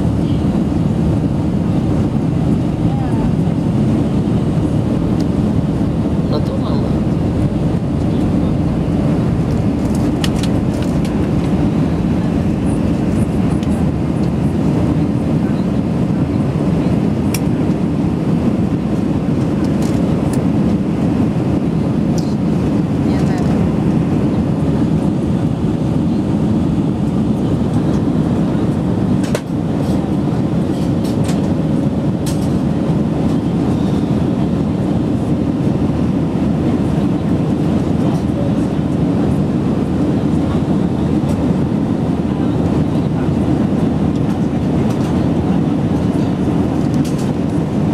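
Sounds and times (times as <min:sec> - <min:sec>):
low engine drone: 0:00.0 - 0:47.9
rushing airflow: 0:00.0 - 0:47.9.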